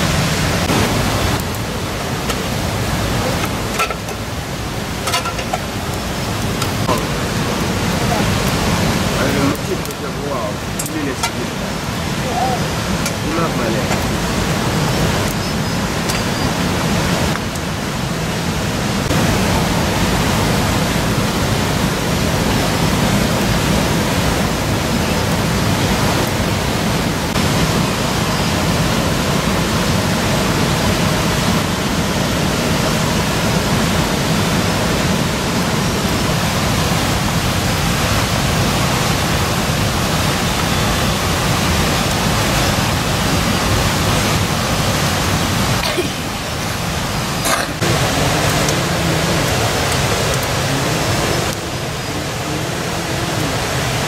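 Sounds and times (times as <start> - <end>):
steady loud rushing noise: 0.0 - 54.0.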